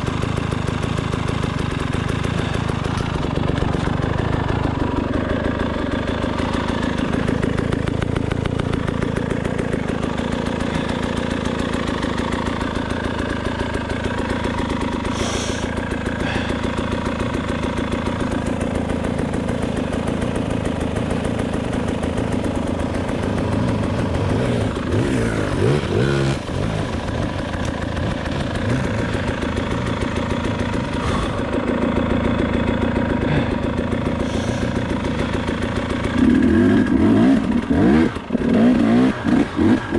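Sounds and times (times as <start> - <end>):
motorbike engine idling low: 0.0 - 39.9.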